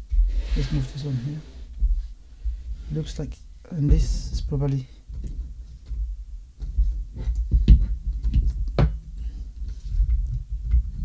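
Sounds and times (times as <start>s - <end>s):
low rumble of handling: 0.0s - 11.0s.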